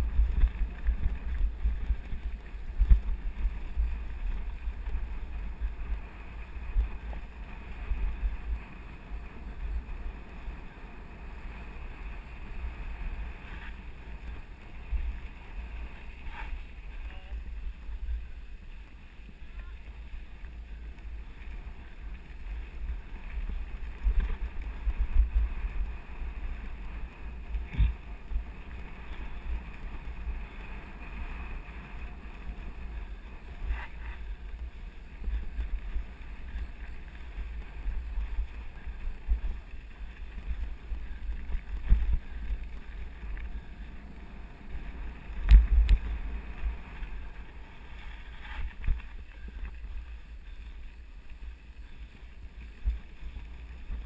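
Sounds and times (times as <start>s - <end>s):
bike rolling on gravel: 0.0s - 54.0s
wind buffeting camera: 0.0s - 54.0s.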